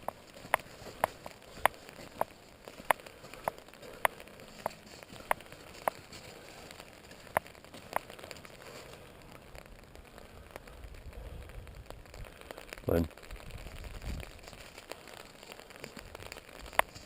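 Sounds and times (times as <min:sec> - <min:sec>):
light rain pattering: 0:00.0 - 0:17.0
raindrops tapping on umbrella: 0:00.0 - 0:17.0.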